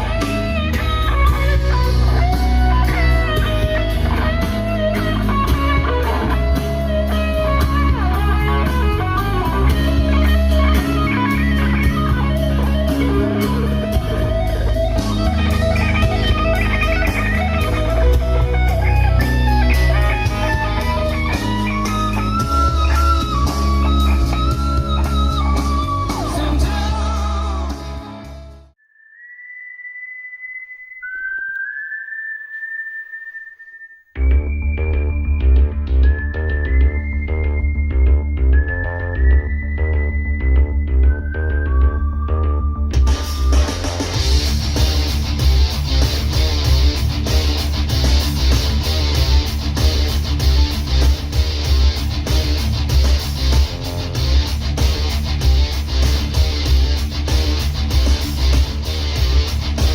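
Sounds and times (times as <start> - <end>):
whistle-like high tones: 0.0 - 27.0, 28.8 - 59.9
rock music through speaker: 0.0 - 28.7, 34.2 - 59.9.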